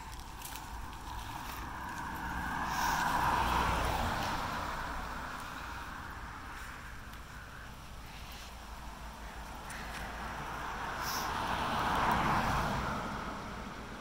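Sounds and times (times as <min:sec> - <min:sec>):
car driving past: 0:00.0 - 0:14.0.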